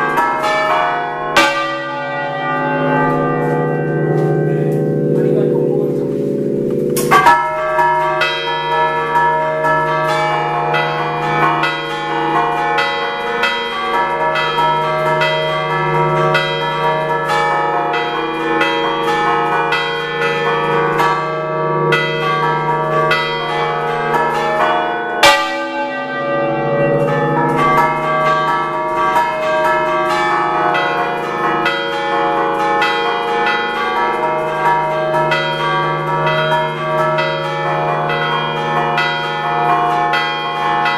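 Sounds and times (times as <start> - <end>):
church bells rung by hand: 0.0 - 40.9.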